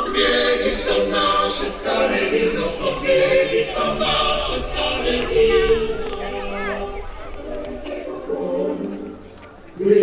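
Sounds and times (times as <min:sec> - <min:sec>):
children singing together: 0:00.0 - 0:10.0.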